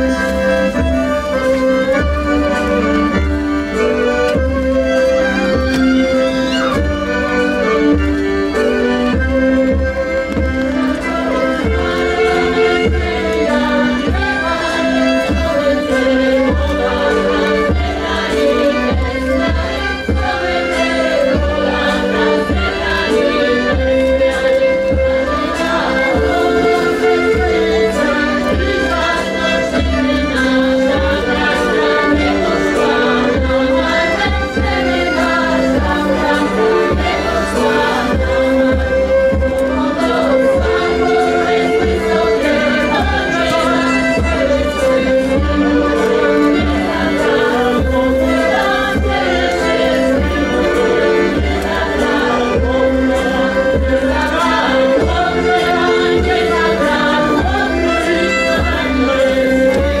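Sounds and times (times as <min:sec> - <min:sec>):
choir singing held notes: 0:00.0 - 1:00.0
instrumental accompaniment: 0:00.0 - 1:00.0
steady low beat: 0:00.0 - 1:00.0.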